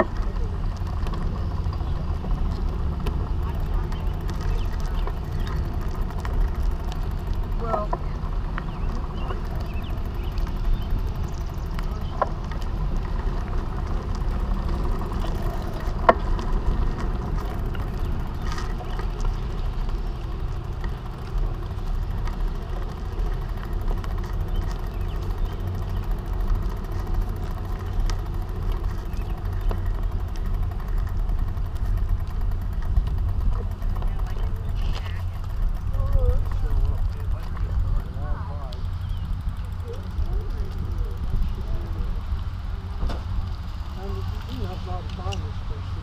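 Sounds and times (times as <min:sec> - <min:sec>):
bicycle tyres rolling on asphalt: 0:00.0 - 0:46.0.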